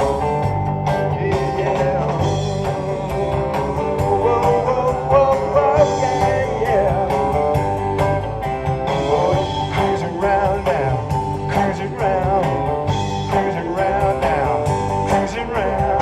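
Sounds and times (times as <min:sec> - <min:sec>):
live rock band playing: 0:00.0 - 0:16.0
steady drum beat: 0:00.0 - 0:16.0
person singing: 0:01.0 - 0:16.0.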